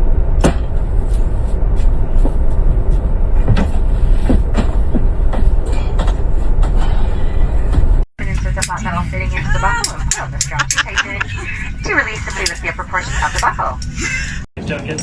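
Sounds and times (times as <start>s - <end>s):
vehicle rumble from inside: 0.0s - 15.0s.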